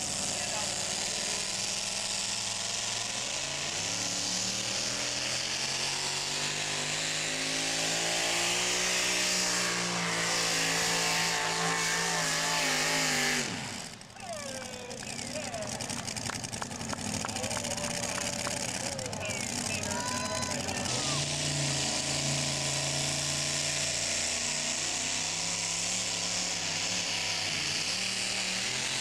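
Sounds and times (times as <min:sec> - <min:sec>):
truck engine at full throttle: 0:00.0 - 0:29.0.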